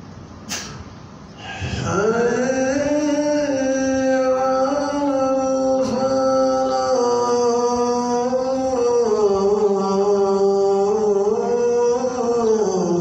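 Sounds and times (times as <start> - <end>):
man chanting call to prayer: 1.4 - 13.0.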